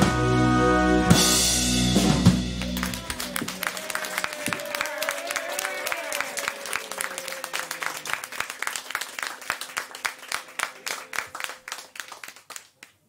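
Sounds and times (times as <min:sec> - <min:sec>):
audience applauding: 0:02.3 - 0:13.0.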